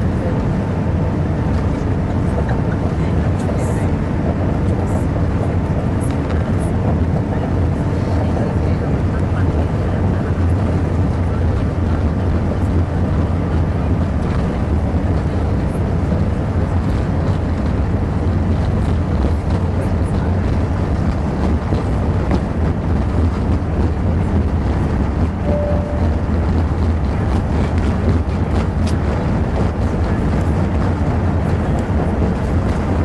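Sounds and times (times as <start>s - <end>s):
aircraft cabin rumble on runway: 0.0s - 33.0s.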